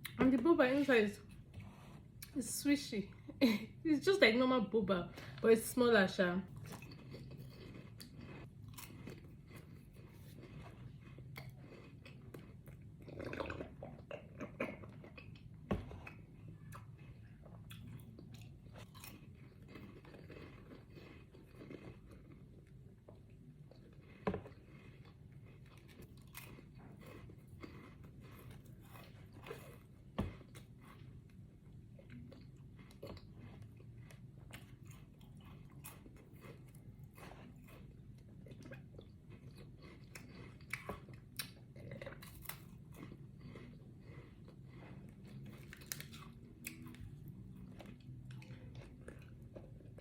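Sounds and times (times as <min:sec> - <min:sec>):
chewing and crunching biscuits: 0:00.0 - 0:50.0.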